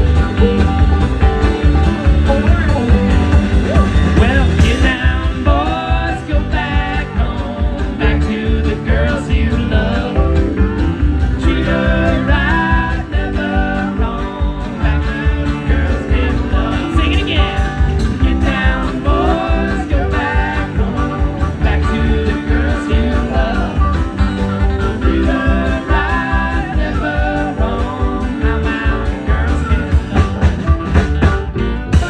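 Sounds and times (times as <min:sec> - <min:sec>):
string band playing country music: 0:00.0 - 0:32.0.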